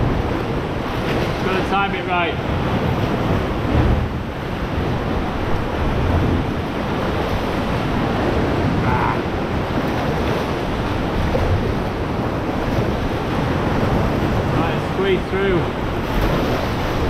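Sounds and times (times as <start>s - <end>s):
waves breaking against rock: 0.0s - 17.0s
wind rumbling on microphone: 0.0s - 17.0s.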